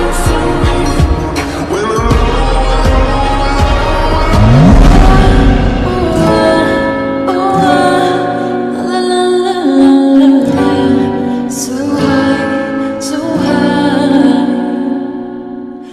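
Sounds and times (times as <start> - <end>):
person singing: 0.0 - 15.9
slow tender music: 0.0 - 15.9.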